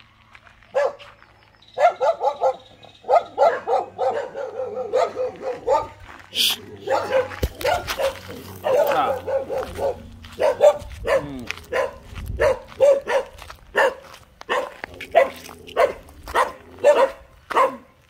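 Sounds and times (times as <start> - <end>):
dog barking: 0.7 - 1.2, 1.8 - 18.0.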